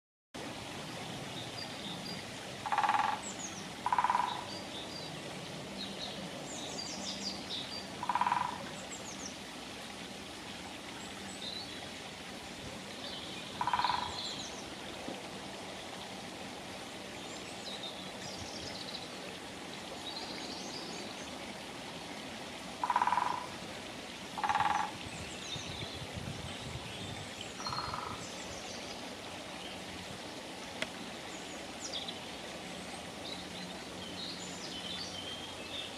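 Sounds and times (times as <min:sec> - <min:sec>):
steady background hiss: 0:00.4 - 0:35.9.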